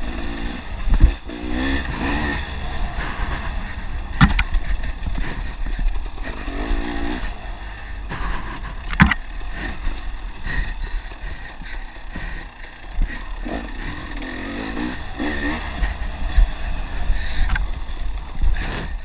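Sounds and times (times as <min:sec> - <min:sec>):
dirt bike engine revving: 0:00.0 - 0:19.0
wind buffeting microphone: 0:00.0 - 0:19.0.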